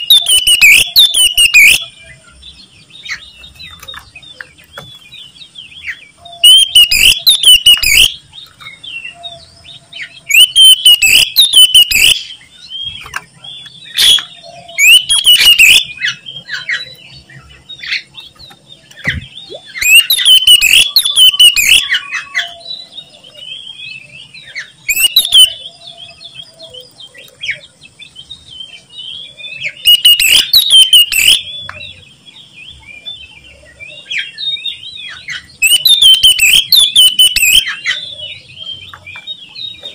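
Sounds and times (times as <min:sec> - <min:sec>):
soft bird chirps and whistles: 0:00.0 - 0:27.7, 0:28.4 - 0:32.0, 0:32.7 - 0:39.9
magpie-robin singing: 0:00.0 - 0:39.9.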